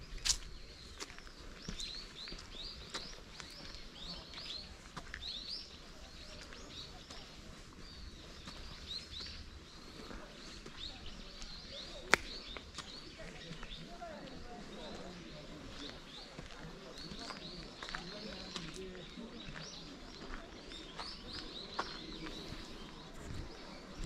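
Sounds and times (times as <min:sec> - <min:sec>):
footsteps on forest path: 0:00.0 - 0:24.0
small birds chirping: 0:00.0 - 0:24.0.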